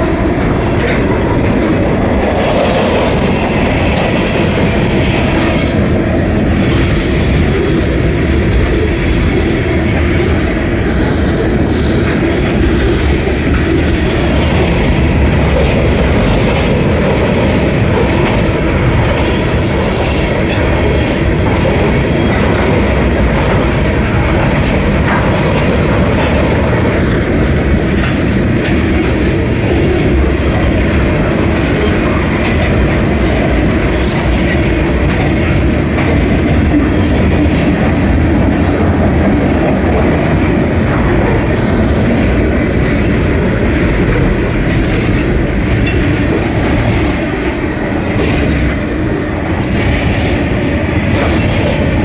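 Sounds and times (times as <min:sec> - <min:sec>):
train trucks clattering: 0:00.0 - 0:52.0
train wheels rumbling on rails: 0:00.0 - 0:52.0.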